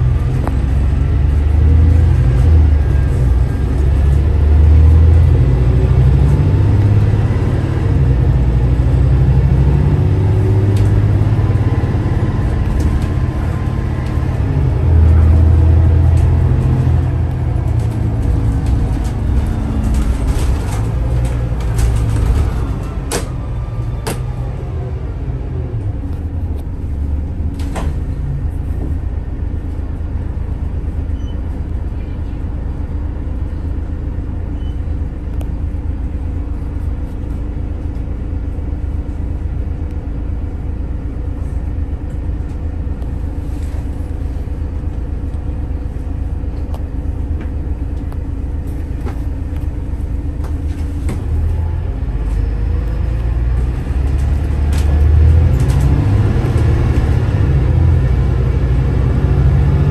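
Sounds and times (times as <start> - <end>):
bus diesel engine accelerating: 0.0 - 59.9.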